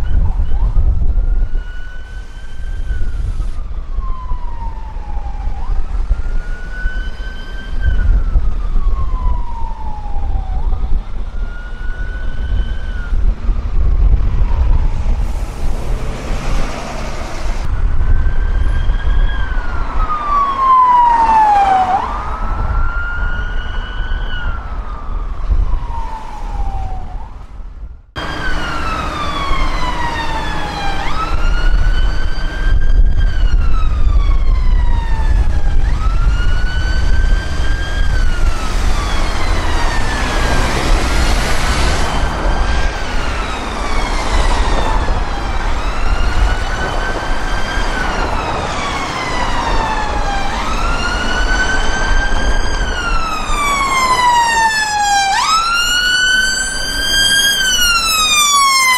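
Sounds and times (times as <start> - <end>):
emergency vehicle sirens wailing: 0.0 - 58.9
traffic rumble: 0.0 - 58.9.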